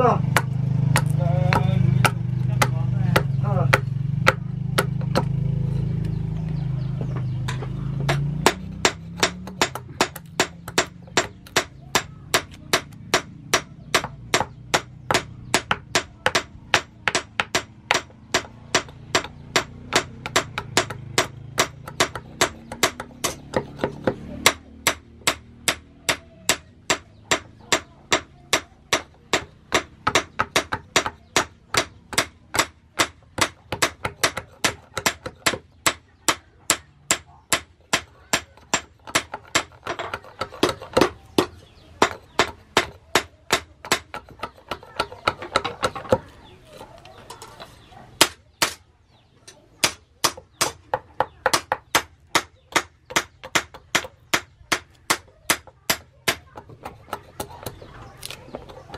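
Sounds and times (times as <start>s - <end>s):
knife chopping on wooden block: 0.2s - 5.4s, 7.0s - 48.8s, 49.8s - 58.9s.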